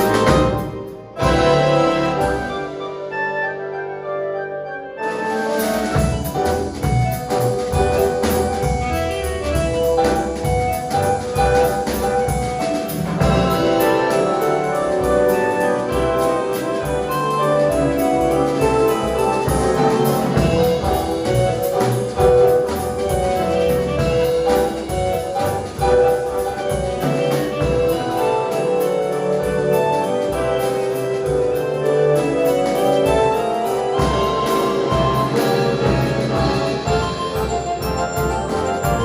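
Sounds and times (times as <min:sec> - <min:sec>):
drum kit: 0:00.0 - 0:03.0, 0:05.0 - 0:39.0
piano: 0:00.0 - 0:39.0.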